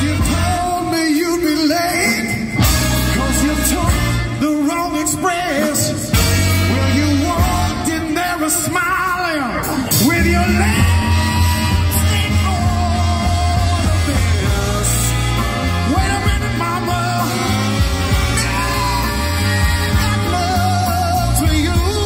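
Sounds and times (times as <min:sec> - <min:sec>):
bass line: 0:00.0 - 0:22.0
live band playing: 0:00.0 - 0:22.0.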